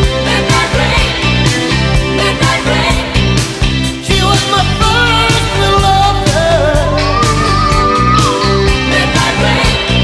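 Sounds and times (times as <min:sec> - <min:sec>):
bass: 0:00.0 - 0:10.0
bending lead melody: 0:00.0 - 0:10.0
drums: 0:00.0 - 0:10.0.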